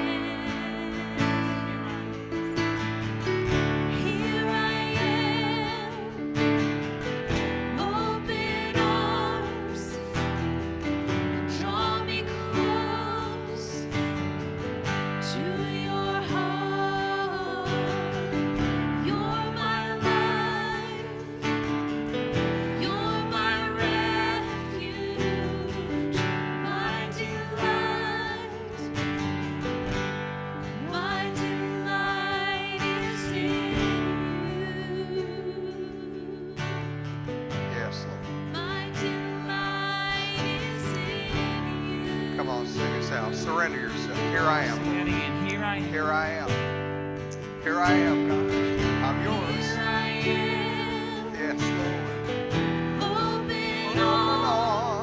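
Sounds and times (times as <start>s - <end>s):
person singing with vibrato: 0.0s - 14.3s, 14.9s - 29.4s, 30.6s - 36.9s, 38.4s - 46.6s, 47.7s - 55.0s
guitar chords: 0.0s - 55.0s.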